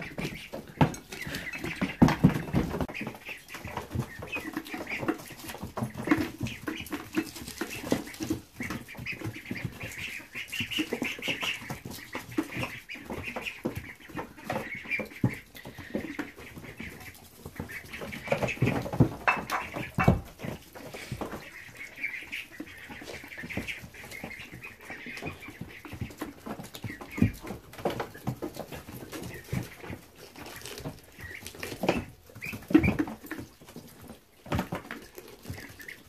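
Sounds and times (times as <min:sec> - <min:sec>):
ducklings peeping: 0:00.0 - 0:36.0
rustling in wood shavings: 0:00.0 - 0:36.0.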